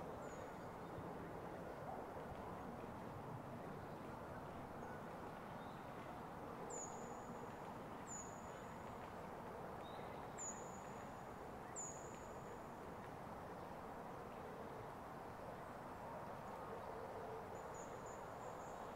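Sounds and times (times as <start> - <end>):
quiet forest ambience: 0.0 - 18.9.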